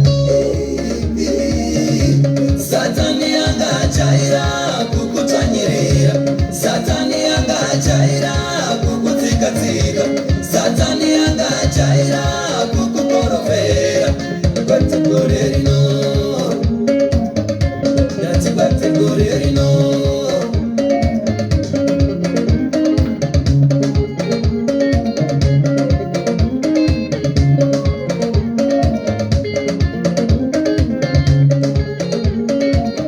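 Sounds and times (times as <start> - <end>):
band music with plucked guitar: 0.0 - 33.0.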